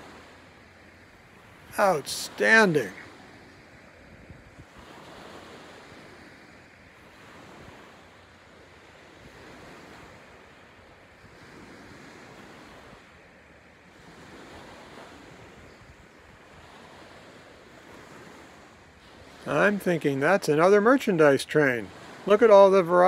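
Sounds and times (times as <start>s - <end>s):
small waves washing on beach: 0.0s - 23.0s.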